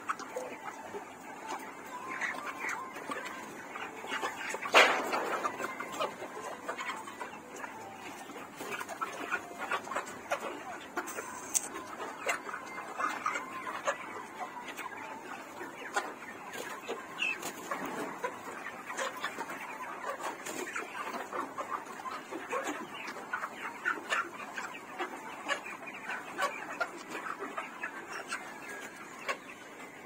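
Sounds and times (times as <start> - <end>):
poultry flock clucking: 0.0 - 30.0.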